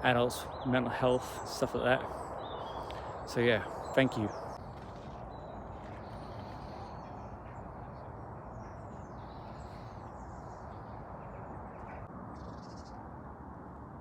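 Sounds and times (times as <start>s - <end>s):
low rush of background noise: 0.0s - 14.0s.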